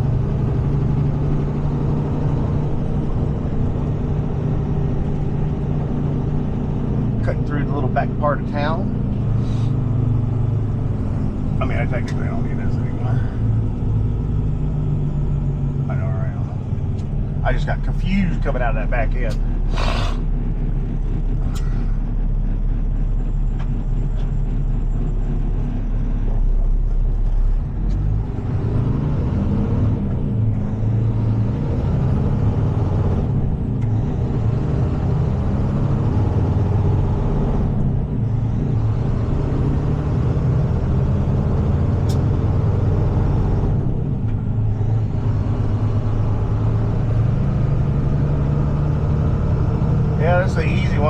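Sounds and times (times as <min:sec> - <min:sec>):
truck engine drone: 0:00.0 - 0:51.0.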